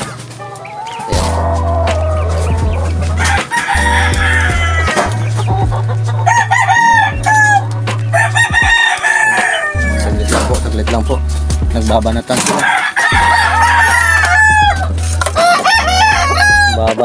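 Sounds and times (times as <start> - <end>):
roosters crowing: 0.0 - 17.0.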